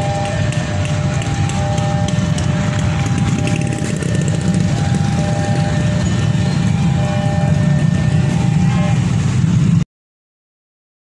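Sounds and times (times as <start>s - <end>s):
low rumble of vehicles: 0.0s - 9.8s.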